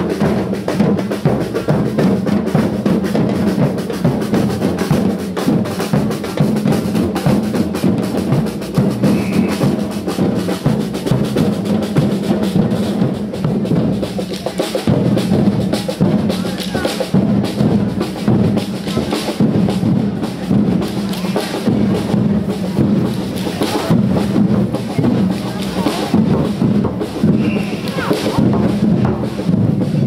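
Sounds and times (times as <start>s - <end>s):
marching drums beating: 0.0s - 30.0s.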